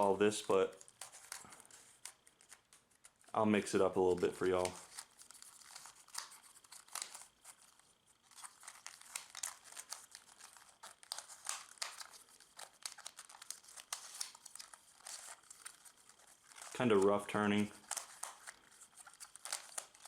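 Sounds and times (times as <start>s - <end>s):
puzzle cube clicking and scraping: 0.0s - 20.0s.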